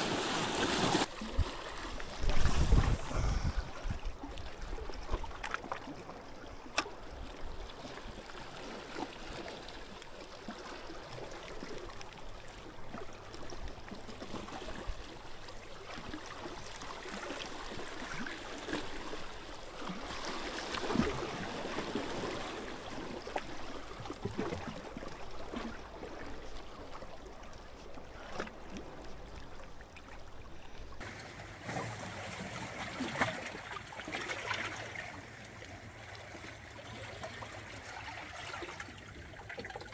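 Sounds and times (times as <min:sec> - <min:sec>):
water lapping and sloshing: 0:00.0 - 0:39.9.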